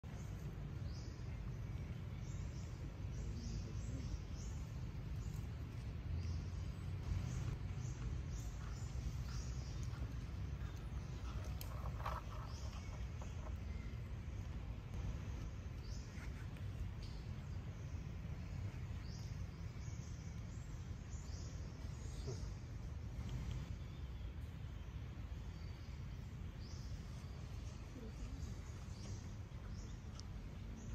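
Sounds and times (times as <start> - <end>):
steady low rumble: 0.0 - 30.9.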